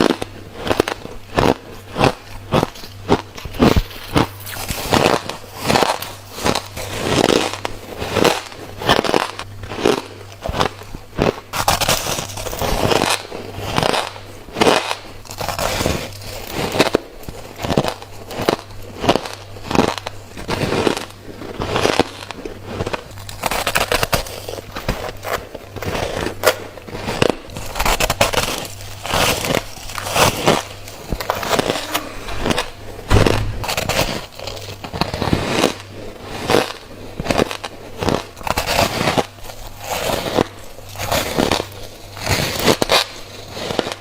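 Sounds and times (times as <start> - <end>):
crunching bites of frost: 0.0 - 44.0.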